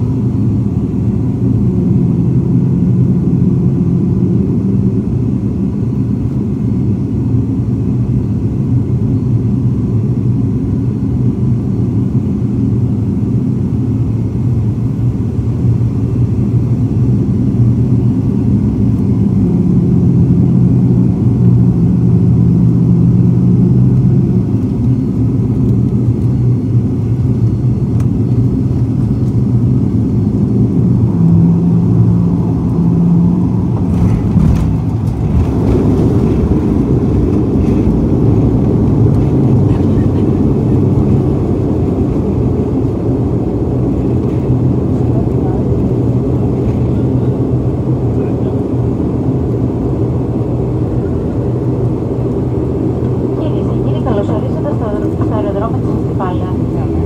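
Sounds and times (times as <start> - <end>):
turboprop engines droning in cabin: 0.0 - 57.0.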